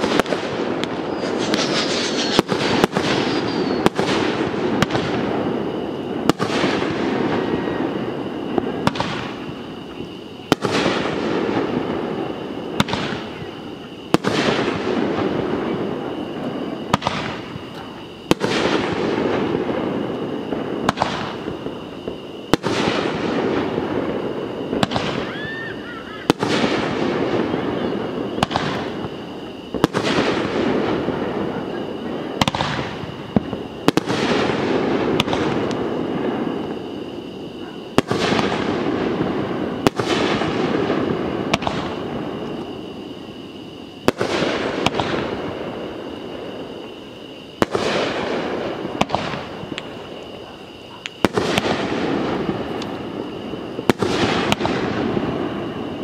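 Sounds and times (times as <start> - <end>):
fireworks bangs with rumbling echo: 0.0 - 56.0.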